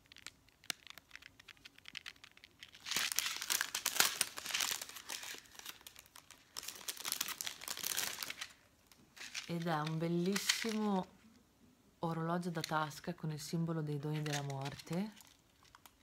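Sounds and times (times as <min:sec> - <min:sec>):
plastic packaging crinkling and tearing: 0:00.0 - 0:11.1, 0:12.4 - 0:13.0, 0:14.0 - 0:16.0.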